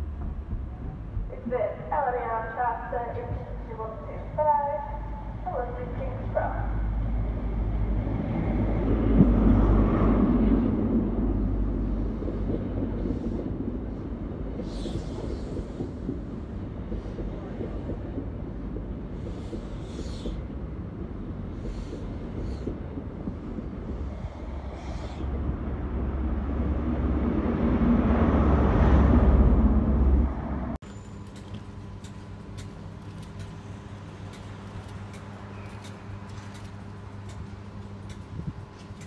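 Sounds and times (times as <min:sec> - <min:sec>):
electric train hum: 0:00.0 - 0:39.0
train wheels rumbling on rail: 0:00.0 - 0:39.0.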